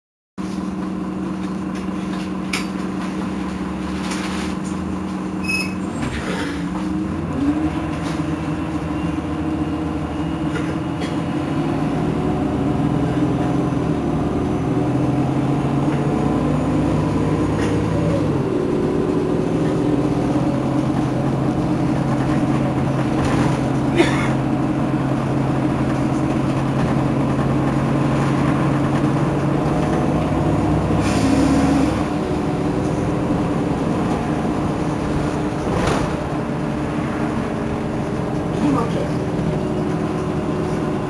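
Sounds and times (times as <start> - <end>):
bus engine idling: 0.4 - 41.0.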